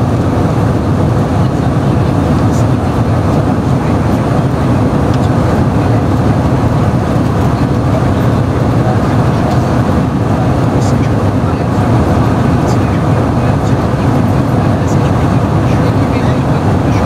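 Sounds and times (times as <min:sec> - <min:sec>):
airliner cabin engine rush: 0:00.0 - 0:17.0.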